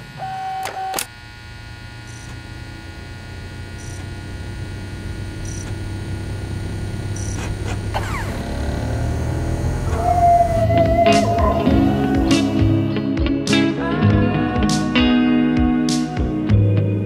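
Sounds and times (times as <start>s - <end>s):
electrical hum: 0.0s - 16.6s.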